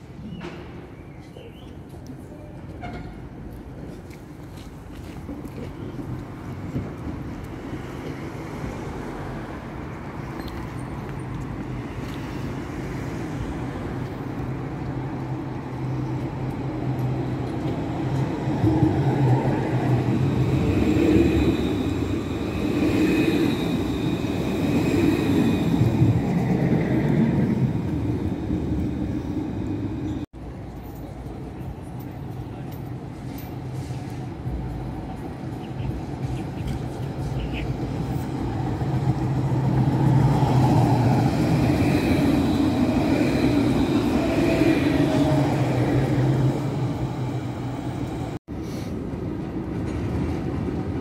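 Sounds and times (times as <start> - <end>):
street noise: 0.0 - 51.0
tram passing: 0.0 - 51.0.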